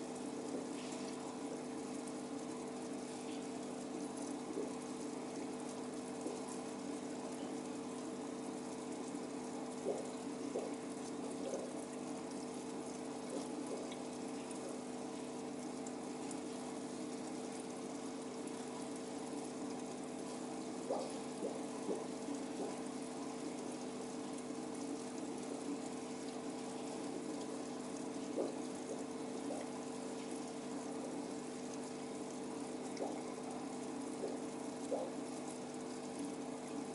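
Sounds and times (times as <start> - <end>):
aquarium pump humming: 0.0 - 36.9.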